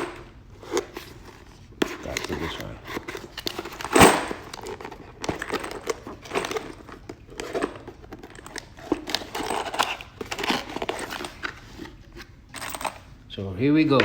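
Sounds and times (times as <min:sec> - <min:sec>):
cardboard box rustling: 0:00.6 - 0:12.2.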